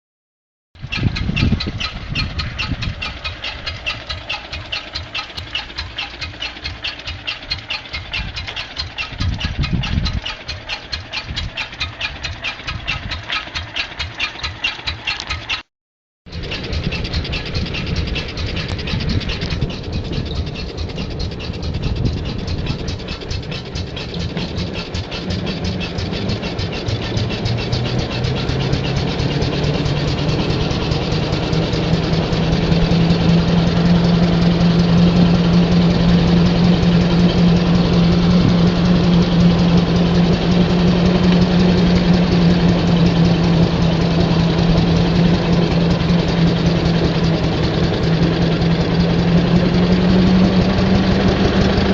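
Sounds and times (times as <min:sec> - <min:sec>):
truck engine running: 0:00.8 - 0:15.7, 0:16.3 - 0:51.9.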